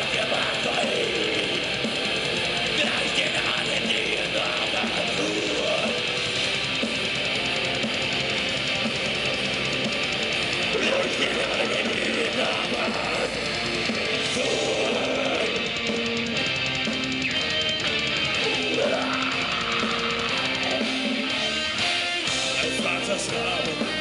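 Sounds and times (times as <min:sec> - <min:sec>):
vocals: 0:00.0 - 0:17.2, 0:17.8 - 0:24.0
distorted electric guitars: 0:00.0 - 0:24.0
drums: 0:00.0 - 0:24.0.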